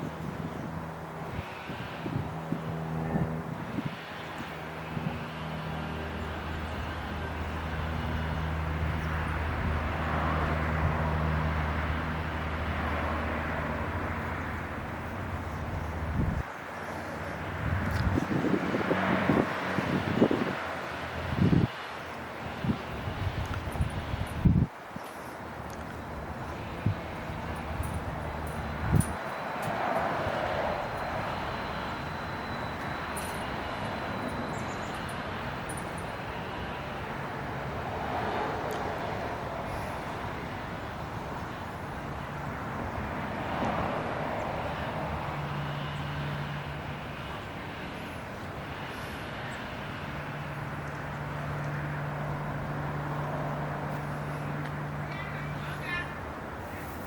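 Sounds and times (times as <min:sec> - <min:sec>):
distant traffic: 0:00.0 - 0:57.0
low engine hum: 0:00.0 - 0:57.0
vehicle passing: 0:00.0 - 0:57.0.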